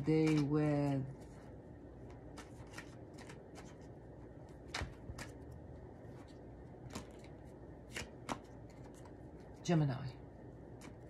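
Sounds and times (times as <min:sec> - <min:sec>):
cards shuffling by hand: 0:00.0 - 0:09.6, 0:10.7 - 0:11.0.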